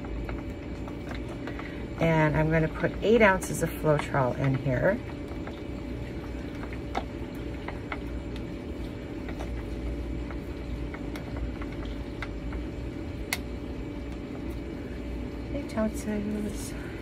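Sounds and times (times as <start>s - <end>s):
stick stirring paint in cup: 0.0s - 15.4s
low background hum: 0.0s - 17.0s.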